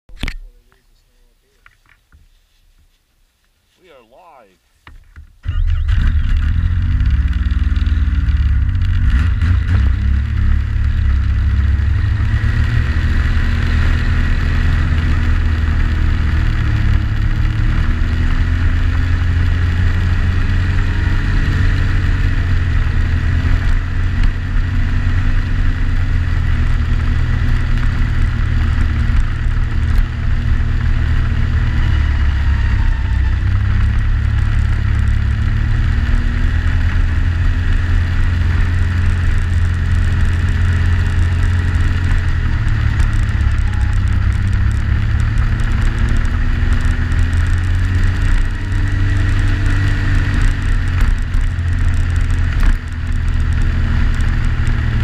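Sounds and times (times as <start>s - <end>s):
snowmobile engine droning: 5.4s - 55.0s.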